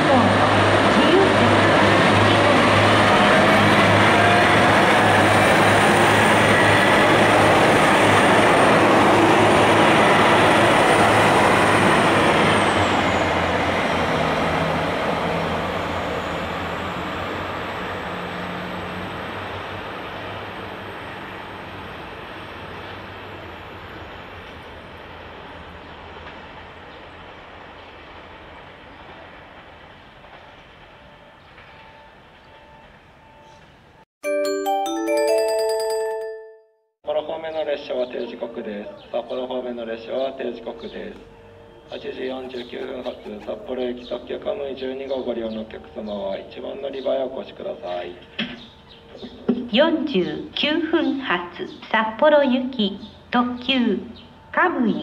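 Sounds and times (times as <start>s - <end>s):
diesel train passing: 0.0s - 36.5s, 37.1s - 55.0s.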